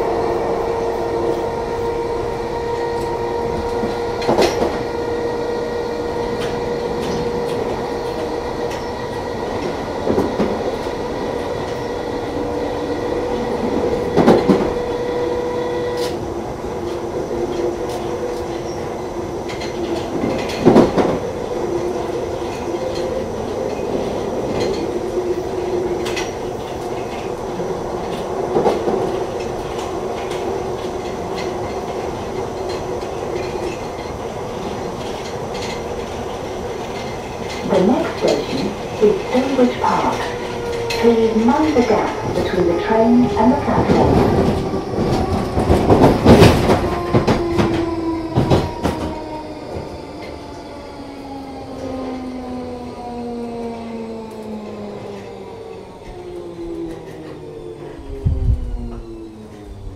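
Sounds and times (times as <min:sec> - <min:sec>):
train whine: 0:00.0 - 0:59.9.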